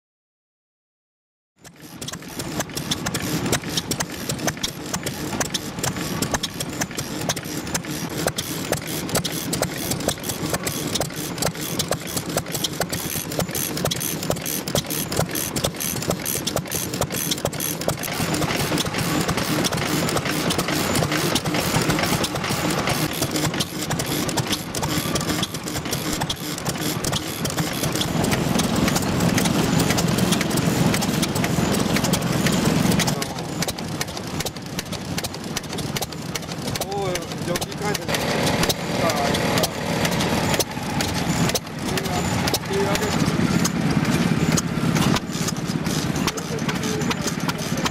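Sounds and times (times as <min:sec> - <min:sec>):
old stationary engines running: 0:01.6 - 0:47.9.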